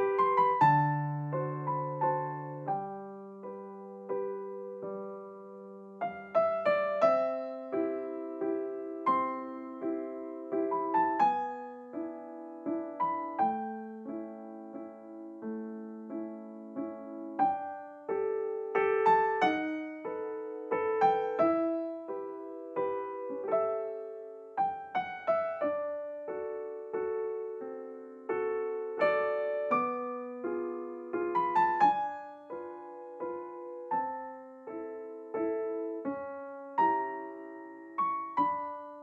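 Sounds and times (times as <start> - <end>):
gentle solo piano music: 0.0 - 39.0.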